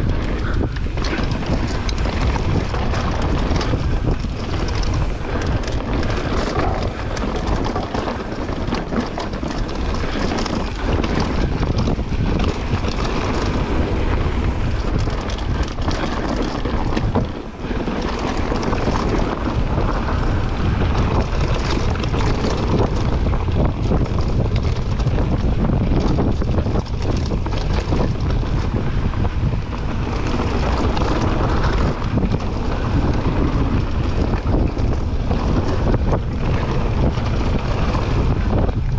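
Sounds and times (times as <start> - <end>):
bike knocking and rattling: 0.0 - 38.9
bike tyres rolling on dirt: 0.0 - 38.9
wind buffeting microphone: 0.0 - 38.9.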